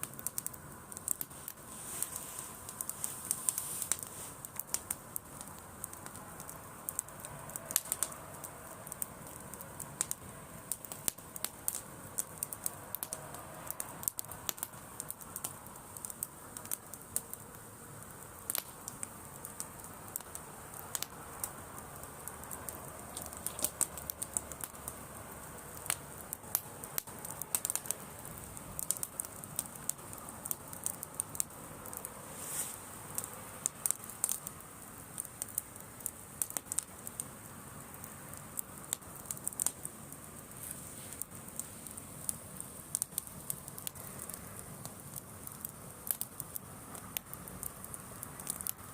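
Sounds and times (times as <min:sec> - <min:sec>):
bonfire crackling: 0:00.0 - 0:48.9
sharp pops and snaps: 0:00.0 - 0:48.9.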